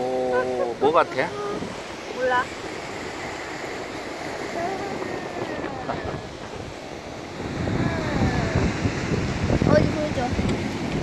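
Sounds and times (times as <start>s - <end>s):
waves washing on shore: 0.0s - 11.0s
wind buffeting microphone: 0.0s - 11.0s.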